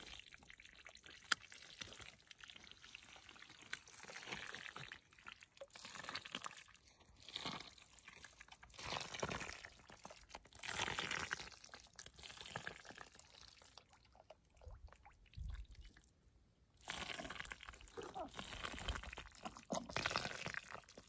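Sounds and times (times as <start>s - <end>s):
muddy water sloshing and dripping: 0.0s - 16.1s, 16.8s - 21.0s.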